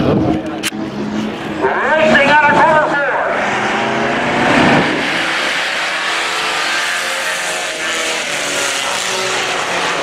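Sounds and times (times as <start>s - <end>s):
racing truck engines: 0.0s - 10.0s.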